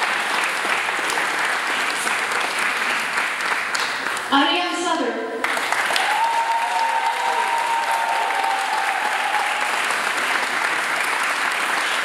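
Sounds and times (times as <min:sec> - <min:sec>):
audience applauding: 0:00.0 - 0:04.3, 0:05.4 - 0:12.0.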